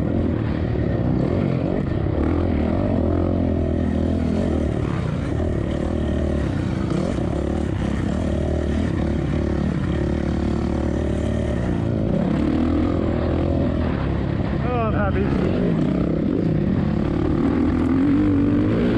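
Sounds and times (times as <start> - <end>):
dirt bike engine revving: 0.0 - 18.9.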